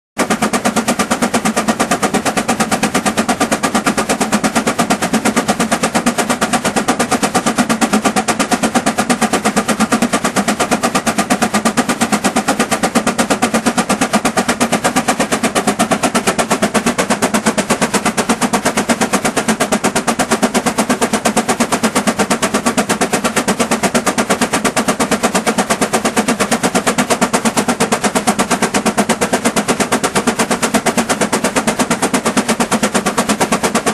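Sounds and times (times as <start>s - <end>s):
steam engine exhaust chuffing: 0.2s - 33.9s.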